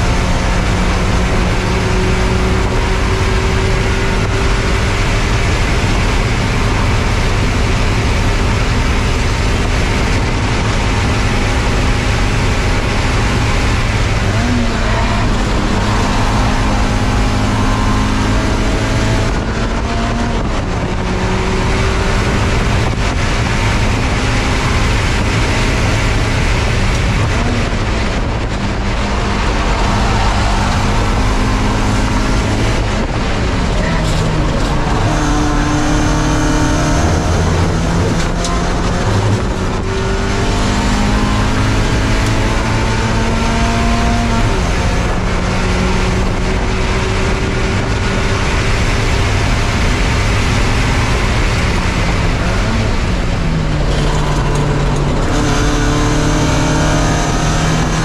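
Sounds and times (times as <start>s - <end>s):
race car engine running hard: 0.0s - 58.0s
wind and road noise: 0.0s - 58.0s.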